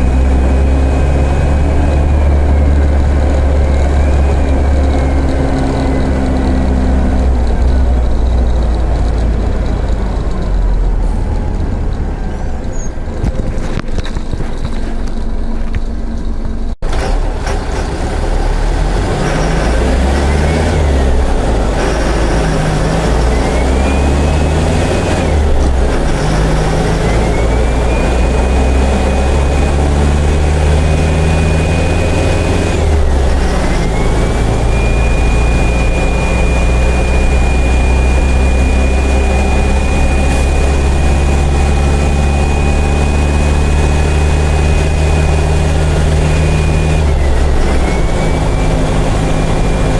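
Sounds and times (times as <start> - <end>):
bus diesel engine revving: 0.0 - 49.9
high gear whine: 0.0 - 49.9.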